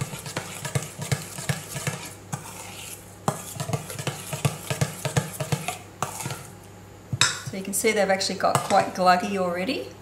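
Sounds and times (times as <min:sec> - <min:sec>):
spoon stirring in a dish: 0:00.0 - 0:09.3.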